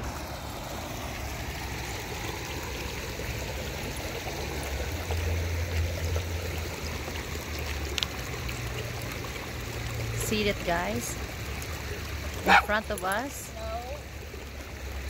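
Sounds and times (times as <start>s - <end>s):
river water running over gravel: 0.0s - 15.0s.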